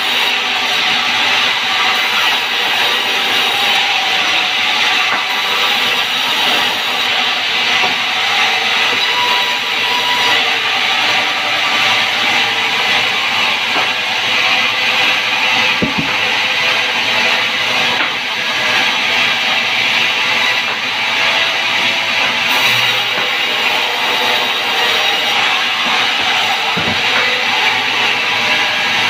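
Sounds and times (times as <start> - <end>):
band sawmill machinery running: 0.0 - 29.0.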